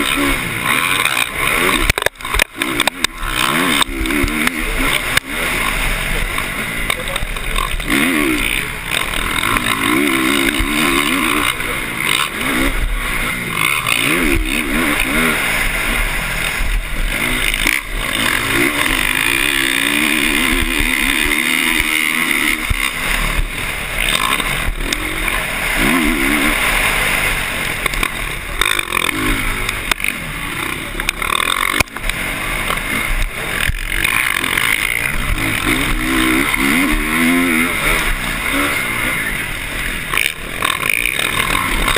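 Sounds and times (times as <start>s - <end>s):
dirt bike engine revving: 0.0s - 41.9s
steady rushing noise: 0.0s - 41.9s.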